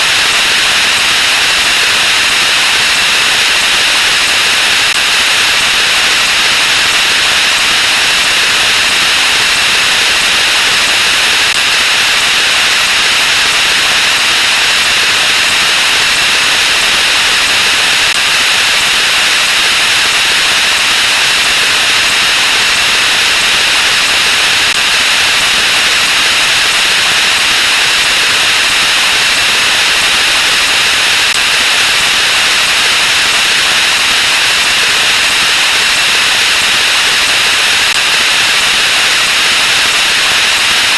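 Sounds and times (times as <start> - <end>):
loud static-like hiss: 0.0 - 40.9.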